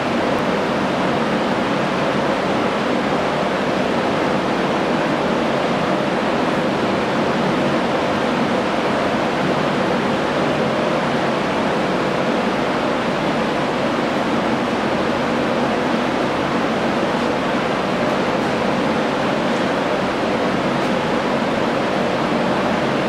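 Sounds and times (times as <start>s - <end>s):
drum fan blowing air: 0.0s - 23.0s.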